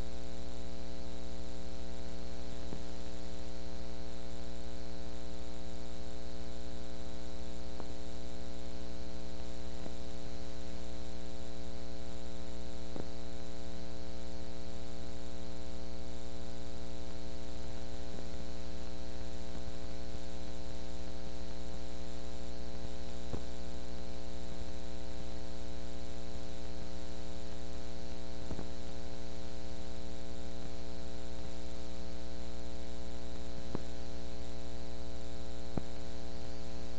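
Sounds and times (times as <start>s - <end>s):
electrical mains hum: 0.0s - 36.9s.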